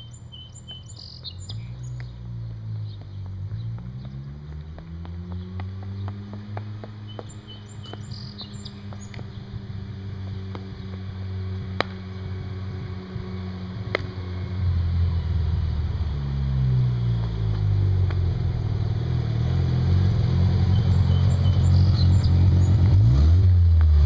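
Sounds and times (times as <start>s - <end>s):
rotary car engine driving up: 0.0s - 24.0s.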